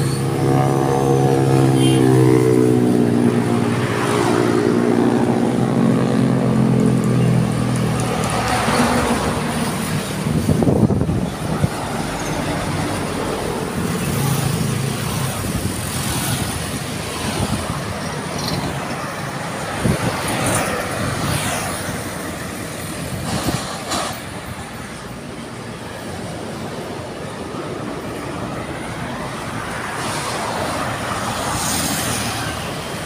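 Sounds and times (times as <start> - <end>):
highway traffic passing: 0.0 - 33.0
truck engine: 0.0 - 33.0.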